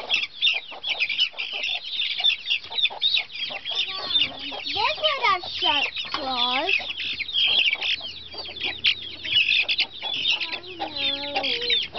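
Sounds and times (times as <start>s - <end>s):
lower gliding chicken calls: 0.0s - 11.9s
young chickens peeping: 0.0s - 11.9s.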